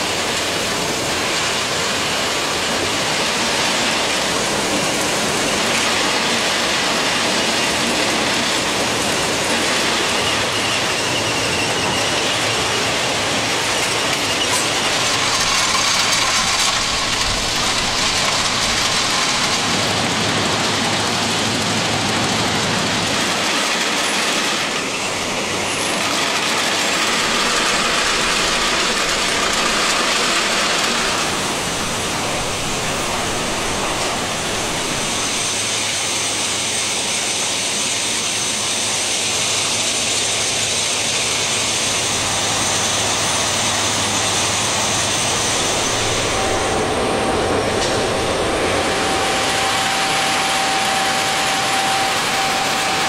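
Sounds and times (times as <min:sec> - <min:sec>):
heavy machinery and wheels on rail: 0:00.0 - 0:53.0
faint high whine: 0:00.8 - 0:53.0.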